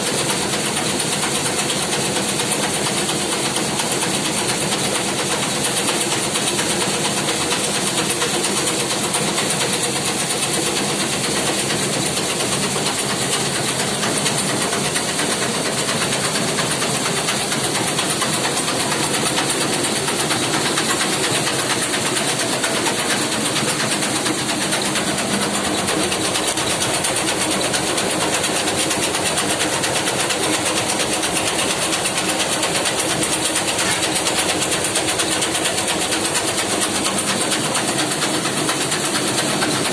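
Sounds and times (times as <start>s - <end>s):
roasting machine clattering: 0.0s - 39.9s.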